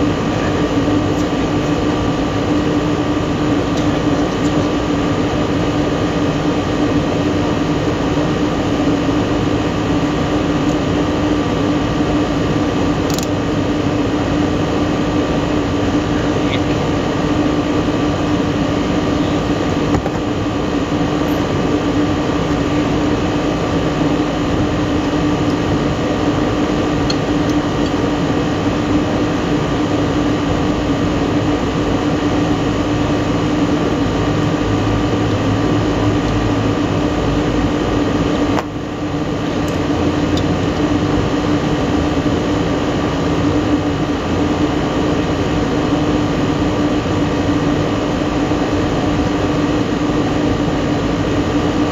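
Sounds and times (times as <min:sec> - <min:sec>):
hvac equipment droning: 0:00.0 - 0:51.9.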